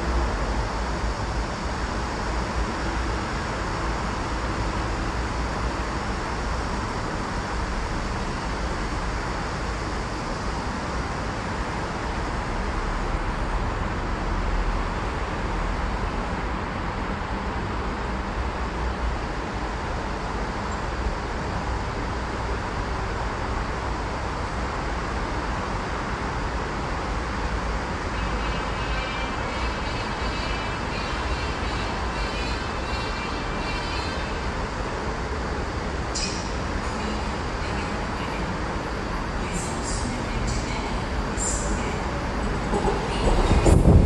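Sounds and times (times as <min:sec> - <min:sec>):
road traffic hum: 0:00.0 - 0:44.0.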